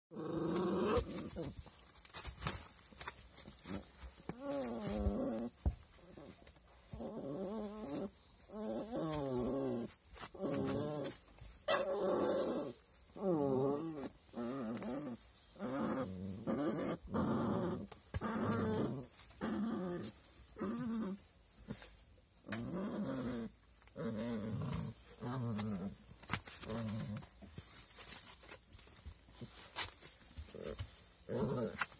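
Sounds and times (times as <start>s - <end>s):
puppies growling: 0.1s - 31.9s.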